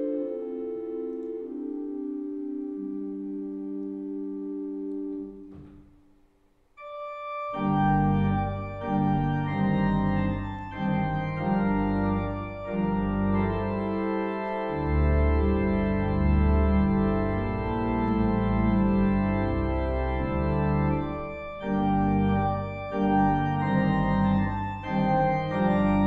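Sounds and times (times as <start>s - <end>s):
church organ playing: 0.0s - 5.9s, 6.8s - 26.0s
deep organ pedal notes: 0.0s - 6.0s, 6.8s - 26.0s.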